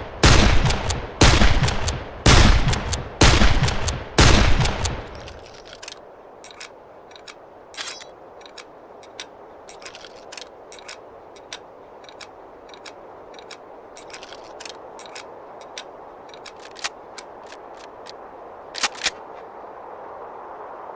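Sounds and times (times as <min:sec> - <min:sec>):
steady hiss: 0:00.0 - 0:20.9
light irregular clicks: 0:00.6 - 0:02.0, 0:02.6 - 0:19.4.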